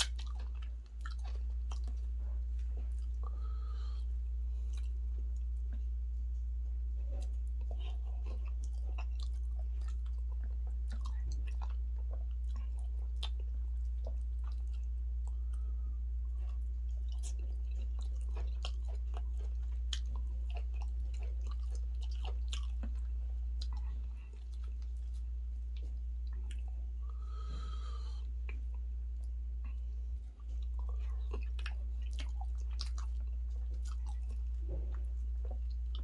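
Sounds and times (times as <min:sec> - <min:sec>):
chewing and wet mouth smacks: 0:00.0 - 0:03.5, 0:04.5 - 0:06.0, 0:07.0 - 0:27.0, 0:28.4 - 0:36.0
steady low hum: 0:00.0 - 0:36.0.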